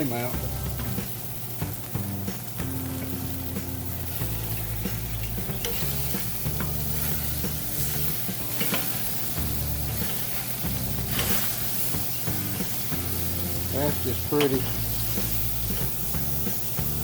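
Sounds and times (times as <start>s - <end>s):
background music with bass line: 0.0s - 17.0s
steaks sizzling on a griddle: 0.0s - 17.0s.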